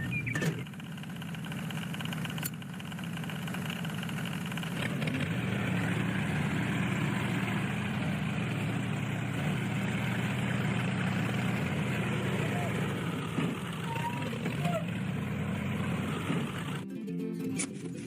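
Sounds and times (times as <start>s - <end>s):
motor humming: 0.0s - 16.8s.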